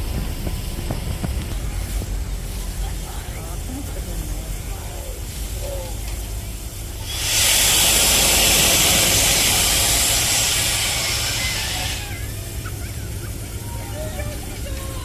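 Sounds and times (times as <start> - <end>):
steady low rumble: 0.0 - 15.0
steam locomotive hissing: 0.0 - 15.0.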